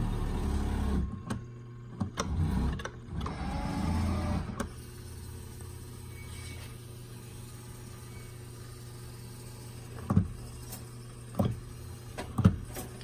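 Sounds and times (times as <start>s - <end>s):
electric motors whirring: 0.0s - 13.0s
steady low hum: 0.0s - 13.0s.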